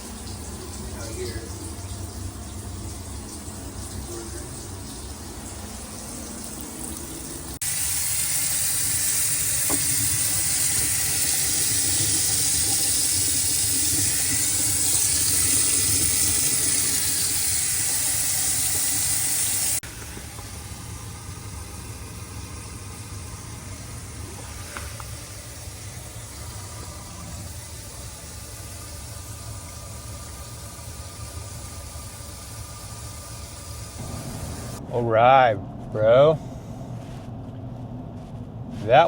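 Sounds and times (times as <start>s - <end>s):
water rushing through plumbing: 0.0s - 35.1s
low steady hum: 0.0s - 39.0s.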